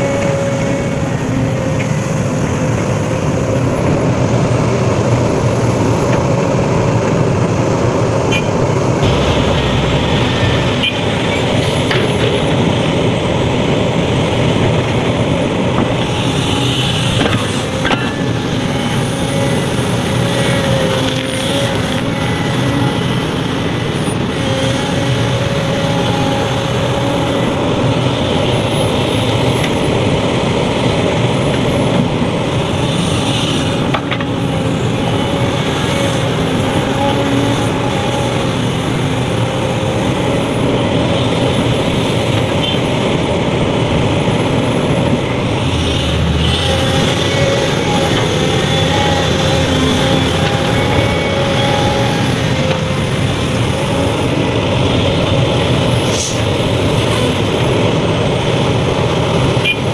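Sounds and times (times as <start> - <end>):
diesel engine drone: 0.0 - 59.9
machinery whining: 0.0 - 59.9.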